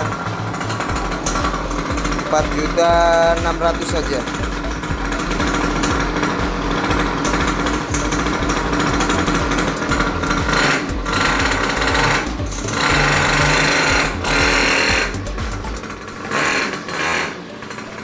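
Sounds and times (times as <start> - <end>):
small two-stroke engine revving: 0.0 - 18.0.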